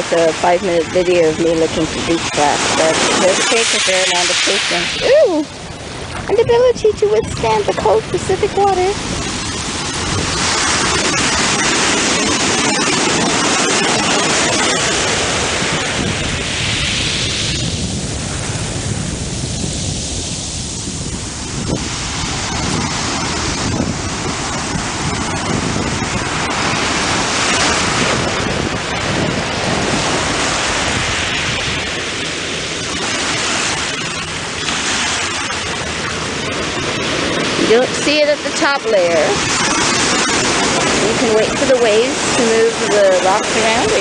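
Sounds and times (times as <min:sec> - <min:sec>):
surf washing over gravel beach: 0:00.0 - 0:44.0
wind rumble on microphone: 0:00.0 - 0:44.0.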